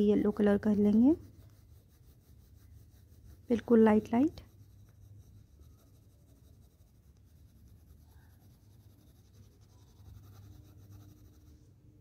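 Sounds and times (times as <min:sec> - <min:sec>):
pencil scratching on paper: 0:00.0 - 0:11.8.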